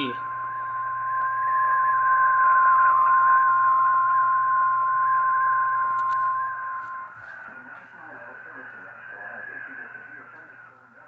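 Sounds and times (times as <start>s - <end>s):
high-pitched alarm tone: 0.0s - 10.2s.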